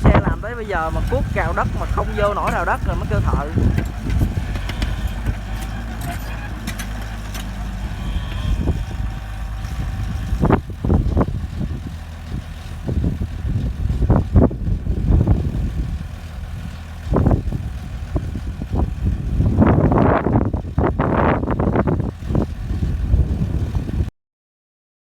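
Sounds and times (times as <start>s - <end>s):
excavator diesel engine rumbling: 0.0s - 24.1s.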